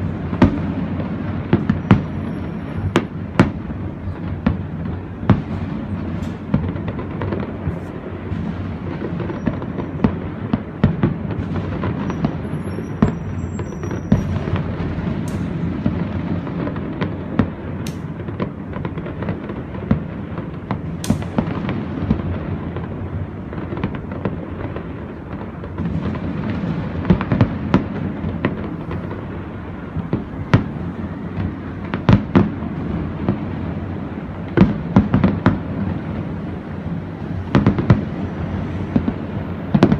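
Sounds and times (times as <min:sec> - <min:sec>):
firework cracks and pops: 0:00.0 - 0:39.9
firework shells booming: 0:00.0 - 0:39.9.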